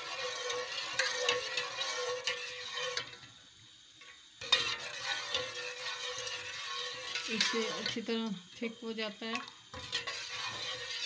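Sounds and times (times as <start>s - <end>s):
spoon stirring in metal pot: 0.0s - 3.4s, 4.0s - 11.0s.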